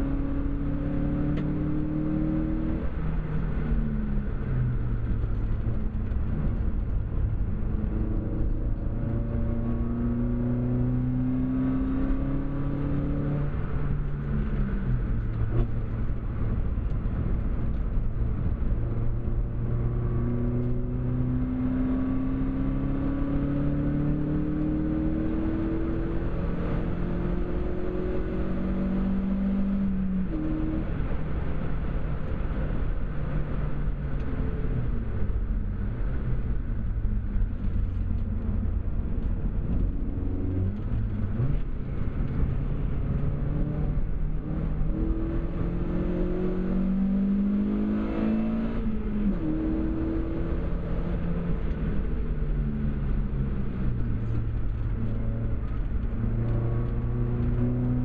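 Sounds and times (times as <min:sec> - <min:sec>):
car engine revving: 0:00.0 - 0:31.2, 0:37.4 - 0:58.0
road and wind noise: 0:00.0 - 0:58.0.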